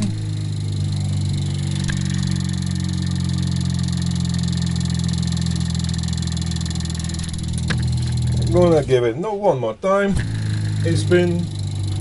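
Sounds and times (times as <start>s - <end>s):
motor rotor humming: 0.0s - 9.1s, 10.1s - 12.0s.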